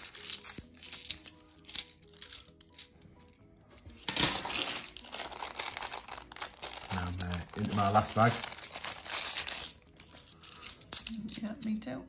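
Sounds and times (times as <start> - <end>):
plastic bag of coins crinkling: 0.0 - 2.9, 4.1 - 11.4
coins clinking: 0.0 - 11.8
faint music: 0.0 - 12.0.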